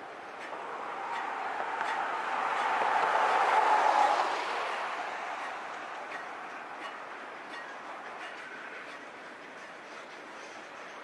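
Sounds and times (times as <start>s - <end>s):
freight train cars rolling: 0.0s - 11.0s.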